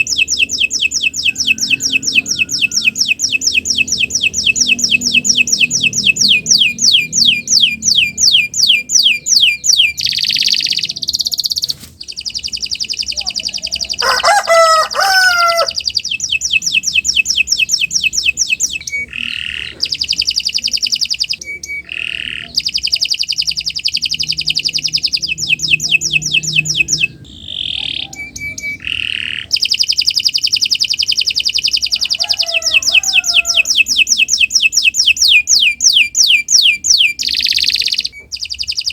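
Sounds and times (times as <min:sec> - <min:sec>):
bird chirping call: 0:00.0 - 0:38.9
canary singing trills: 0:00.0 - 0:38.9.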